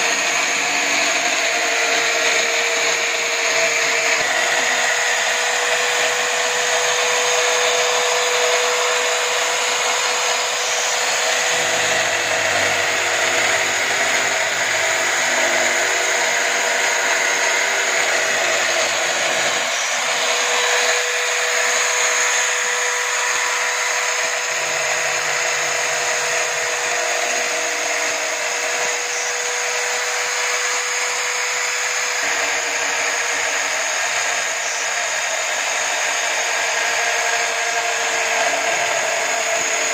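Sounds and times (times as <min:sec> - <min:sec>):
electric drill motor whining: 0:00.0 - 0:39.9.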